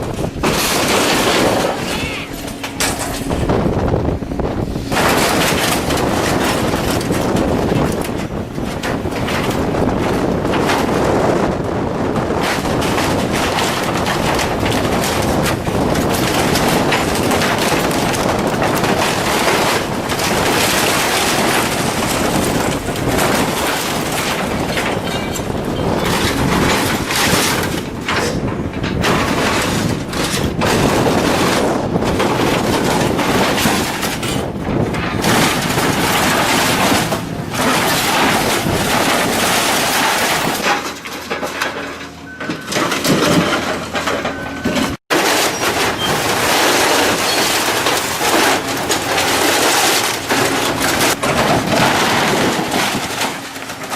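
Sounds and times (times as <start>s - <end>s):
machinery crushing scrap metal: 0.0s - 53.9s.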